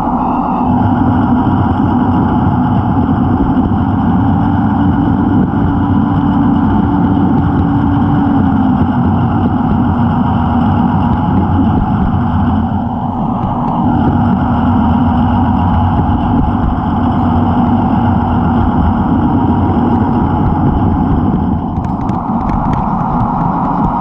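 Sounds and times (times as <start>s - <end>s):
model locomotive mechanical drone: 0.0s - 24.0s.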